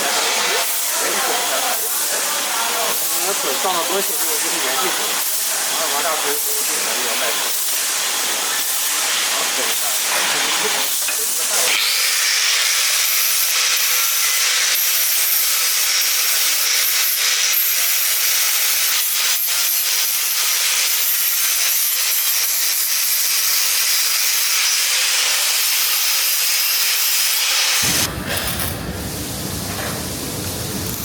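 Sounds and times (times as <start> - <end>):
high-pitched machine hiss: 0.0 - 31.0.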